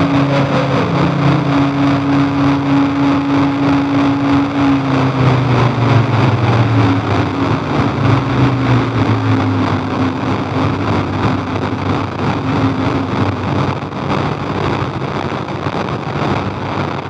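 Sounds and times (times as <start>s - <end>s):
distorted noise drone: 0.0s - 17.0s
low steady synth tones: 0.0s - 17.0s.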